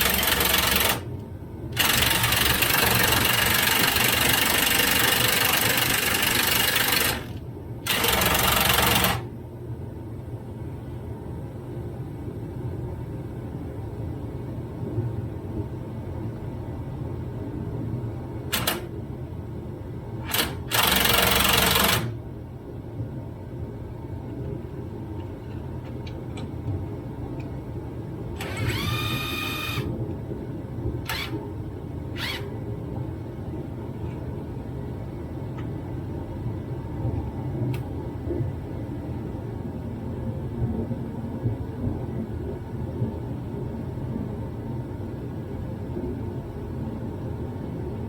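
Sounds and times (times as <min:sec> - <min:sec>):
steady low shop rumble: 0:00.0 - 0:48.0.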